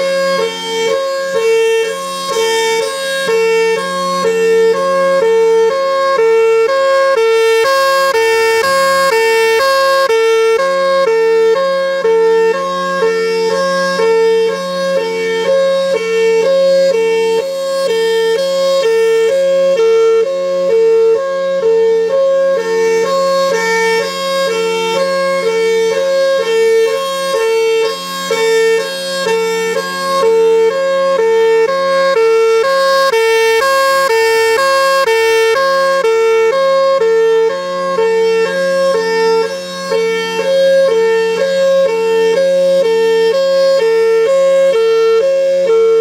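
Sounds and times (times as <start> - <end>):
hi-lo warning siren: 0.0 - 46.0.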